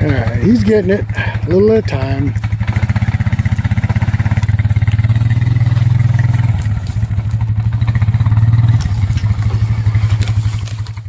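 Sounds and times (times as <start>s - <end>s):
atv engine under load: 0.0s - 11.0s.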